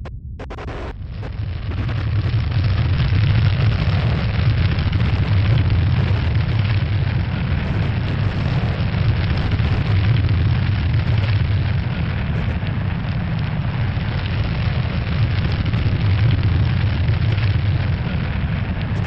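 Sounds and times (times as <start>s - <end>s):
deep rumbling roar: 0.4s - 19.0s.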